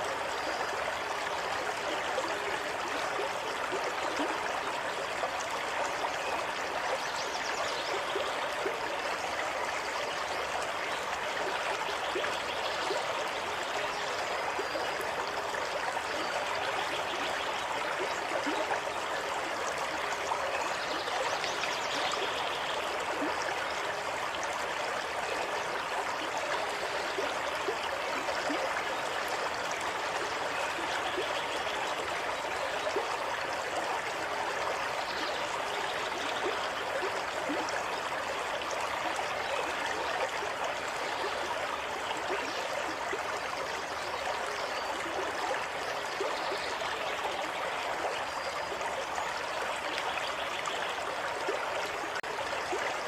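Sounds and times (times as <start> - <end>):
stream water over rocks: 0.0 - 53.0.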